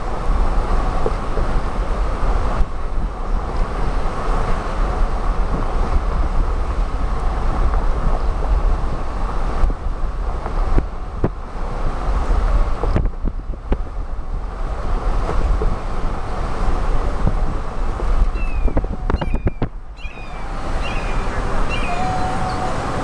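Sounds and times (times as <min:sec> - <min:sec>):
car road and engine noise: 0:00.0 - 0:23.0
wind rumbling on microphone: 0:00.0 - 0:23.0.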